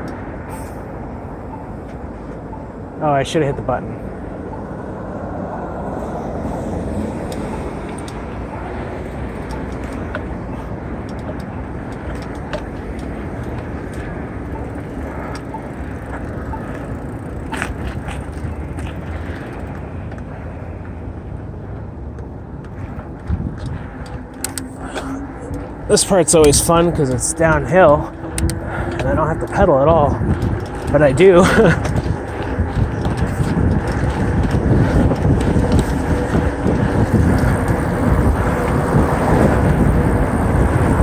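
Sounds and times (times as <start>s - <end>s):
wind noise: 0.0s - 41.0s
bike tyre rumble: 4.1s - 41.0s
bike clicks and rattles: 6.0s - 41.0s.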